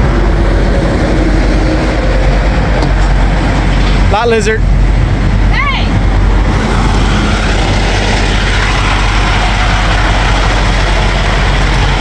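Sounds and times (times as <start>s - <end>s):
diesel truck engines idling: 0.0s - 12.0s.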